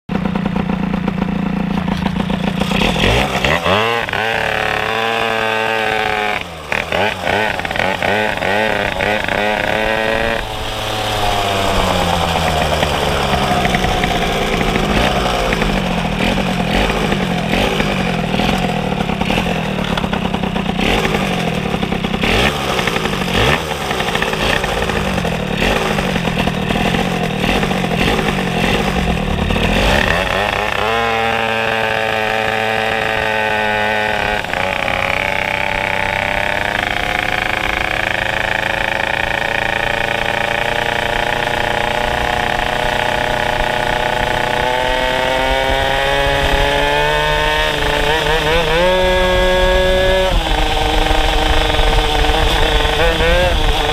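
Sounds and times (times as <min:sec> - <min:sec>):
moped engine revving: 0:00.1 - 0:53.9.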